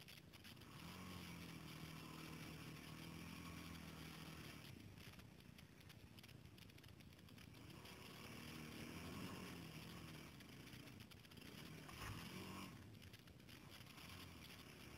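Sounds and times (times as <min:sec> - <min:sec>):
distant off-road engine revving: 0:00.1 - 0:05.3, 0:06.2 - 0:14.9.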